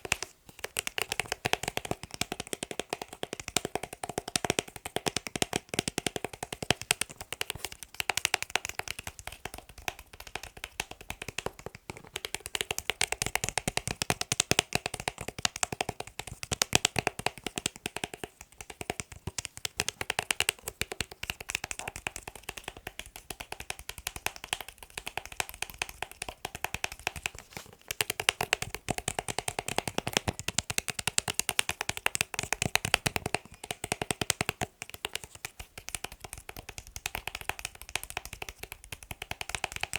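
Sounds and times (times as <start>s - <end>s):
rapid tapping on hard object: 0.0s - 39.9s.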